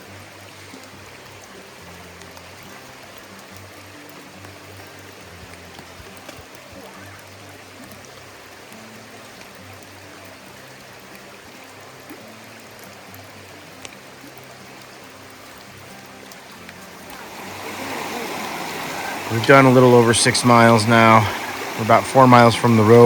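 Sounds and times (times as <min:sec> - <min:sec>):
stream rushing: 0:00.0 - 0:23.0.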